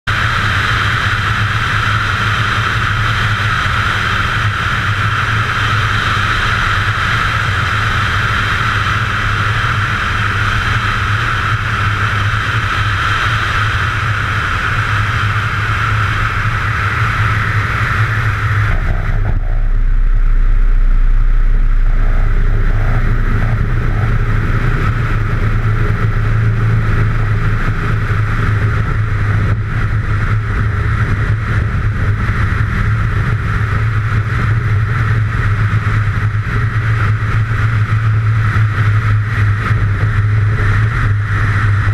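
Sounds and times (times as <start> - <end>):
aircraft engine and propeller: 0.0 - 41.9
low rumble: 0.1 - 41.9
wind rushing over microphone: 0.1 - 41.9.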